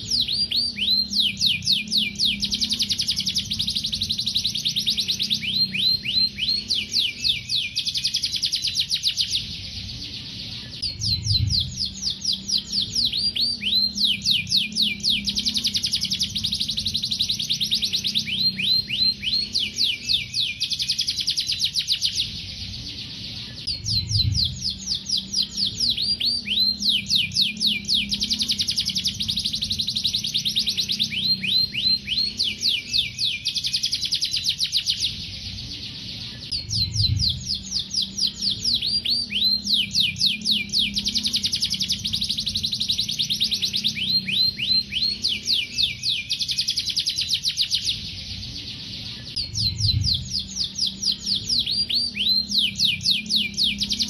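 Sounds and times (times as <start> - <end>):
canary singing trills: 0.0 - 54.0
faint low hum: 0.0 - 54.0.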